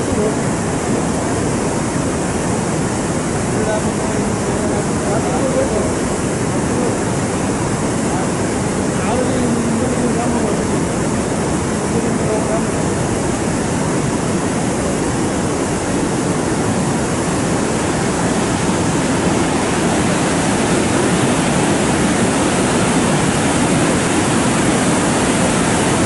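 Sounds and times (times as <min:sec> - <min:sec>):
water rushing over weir: 0:00.0 - 0:26.0.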